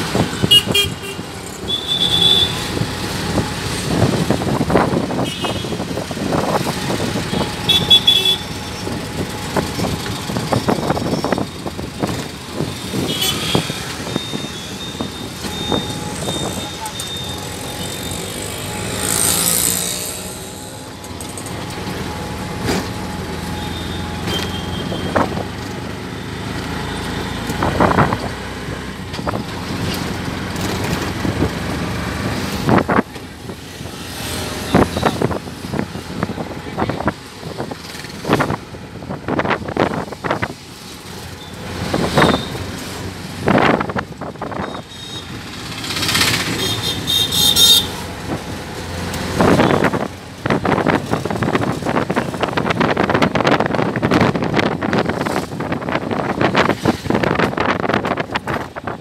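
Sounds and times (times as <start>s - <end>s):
street traffic: 0.0s - 59.0s.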